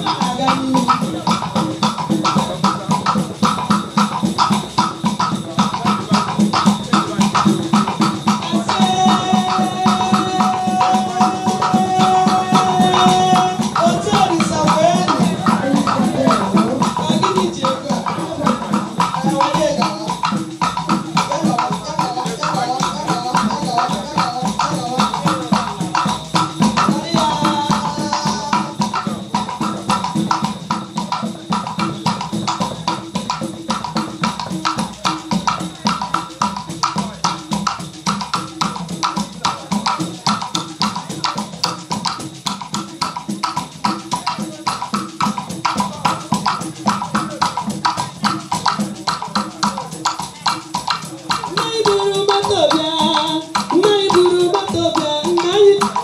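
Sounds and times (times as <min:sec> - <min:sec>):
hand drums in fast rhythm: 0:00.0 - 0:56.0.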